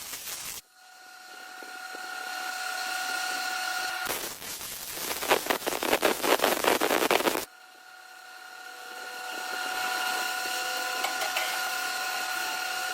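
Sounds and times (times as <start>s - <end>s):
machine high whine: 0.6s - 12.9s.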